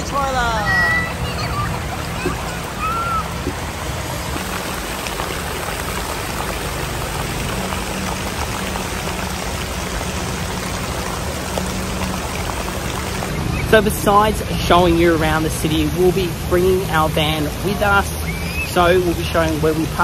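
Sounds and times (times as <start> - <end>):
water spraying and splashing: 0.0 - 20.0.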